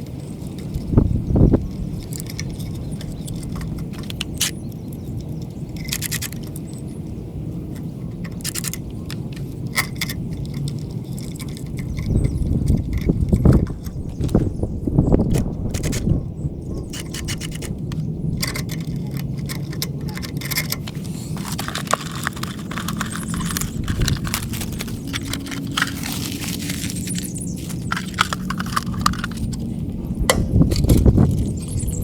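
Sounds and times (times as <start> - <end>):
metallic clicks and scrapes of tools: 0.3 - 14.5, 15.2 - 29.9, 30.6 - 32.0.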